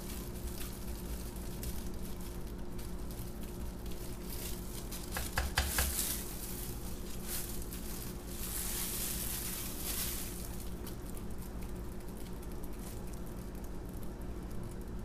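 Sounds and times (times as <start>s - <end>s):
plastic gloves rustling: 0.0s - 14.5s
faint steady hum: 0.0s - 15.0s.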